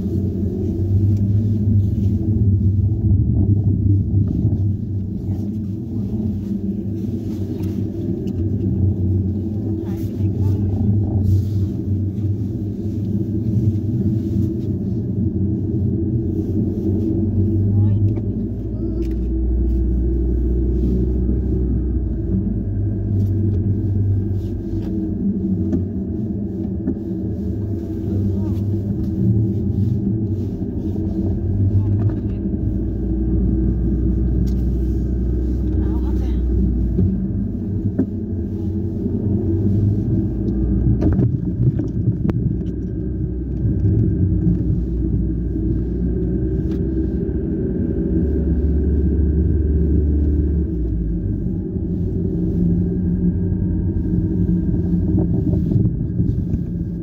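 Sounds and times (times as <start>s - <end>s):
car interior engine and road noise: 0.0s - 57.0s.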